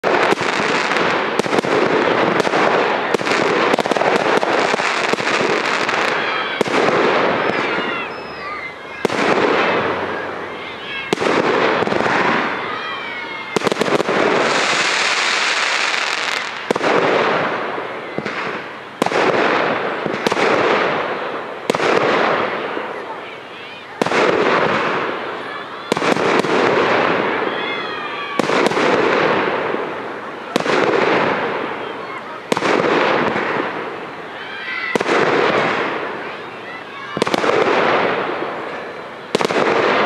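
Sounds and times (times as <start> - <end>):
firework shells bursting with bangs: 0.0 - 8.3, 8.9 - 12.6, 13.5 - 23.0, 24.0 - 27.6, 28.4 - 31.8, 32.5 - 36.3, 37.1 - 40.0
dense crackling of fireworks: 0.0 - 40.0.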